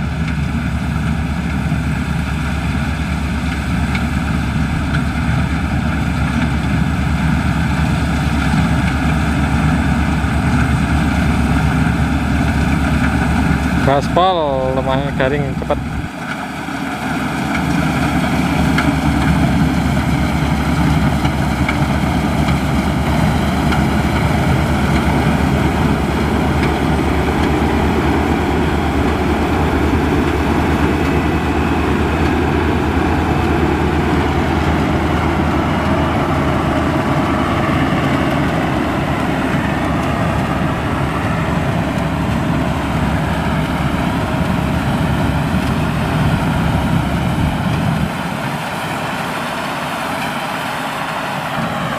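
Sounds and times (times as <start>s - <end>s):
combine harvester running: 0.0s - 51.9s.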